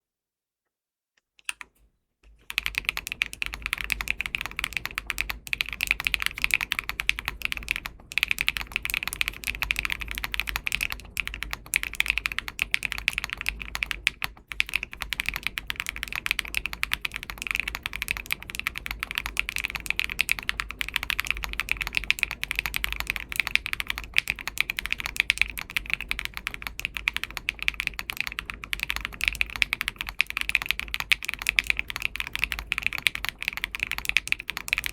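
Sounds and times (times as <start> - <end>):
fast typing on mechanical keyboard: 2.3 - 34.9.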